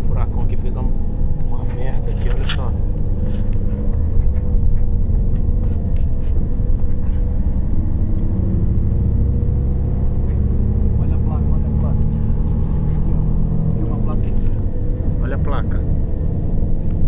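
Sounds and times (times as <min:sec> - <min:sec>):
car engine and road noise: 0:00.0 - 0:17.0
faint steady hum: 0:00.0 - 0:17.0.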